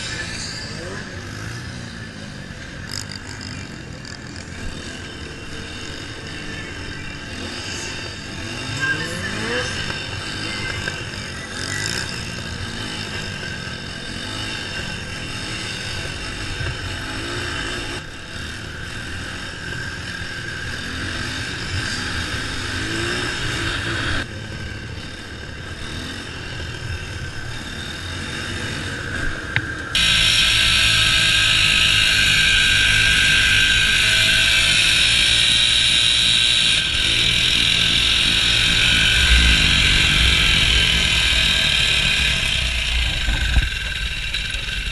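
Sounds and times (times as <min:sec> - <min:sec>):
loud steady rushing noise: 0:00.0 - 0:44.9
mini bike engines revving: 0:00.0 - 0:44.9.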